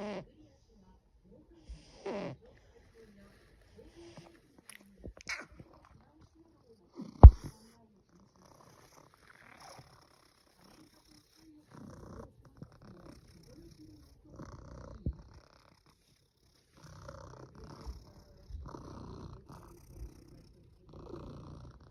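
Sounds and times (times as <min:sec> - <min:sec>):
cat snoring: 0:00.0 - 0:00.4, 0:01.6 - 0:04.4, 0:06.8 - 0:21.9.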